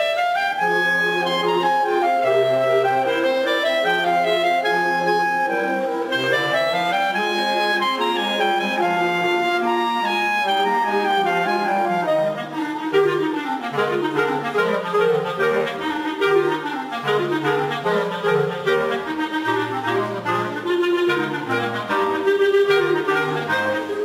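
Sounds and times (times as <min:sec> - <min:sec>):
bass clarinet low line: 0:00.0 - 0:24.0
clarinets playing: 0:00.0 - 0:24.0.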